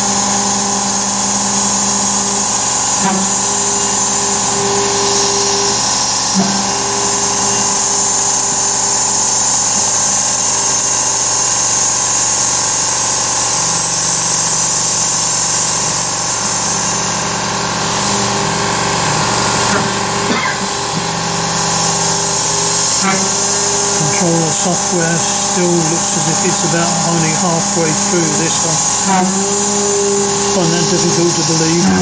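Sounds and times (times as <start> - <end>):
cnc spindle whine: 0.0 - 32.0.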